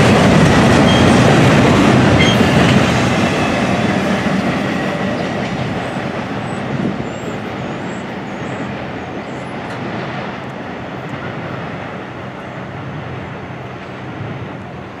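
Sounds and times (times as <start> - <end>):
freight train rolling on rails: 0.0 - 15.0.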